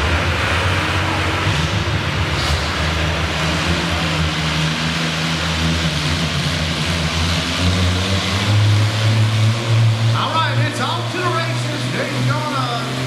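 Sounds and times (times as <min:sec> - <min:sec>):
tractor engine running at low speed: 0:00.0 - 0:13.0.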